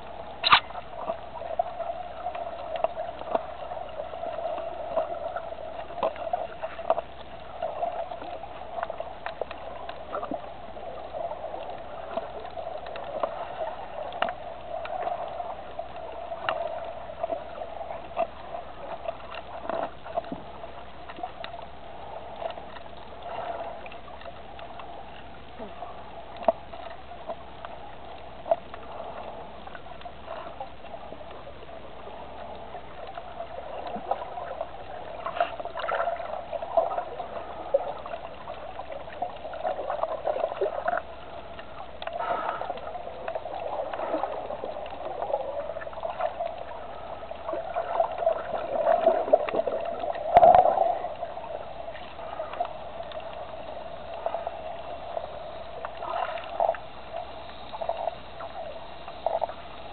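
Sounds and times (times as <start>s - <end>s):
underwater crackles and clicks: 0.0s - 59.9s
underwater water wash: 0.0s - 59.9s.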